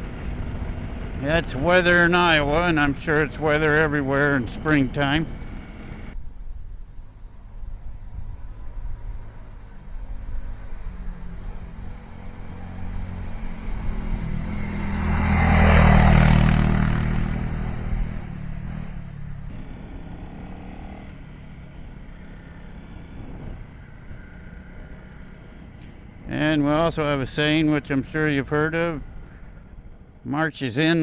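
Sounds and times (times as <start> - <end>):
motorcycle engine running: 0.0 - 30.3
passing vehicle: 0.0 - 31.0.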